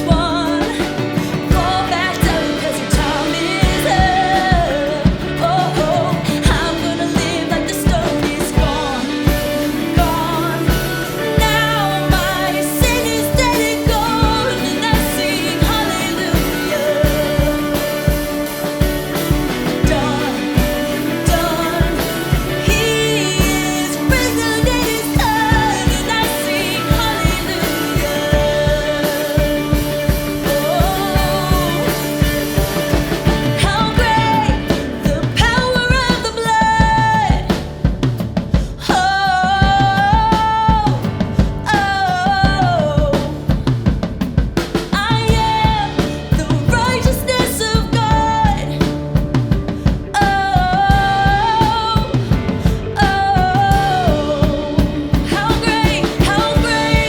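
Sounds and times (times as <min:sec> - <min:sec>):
people singing: 0:00.0 - 0:37.9, 0:44.9 - 0:57.0
band playing upbeat song: 0:00.0 - 0:57.0
drum kit beat: 0:00.0 - 0:57.0.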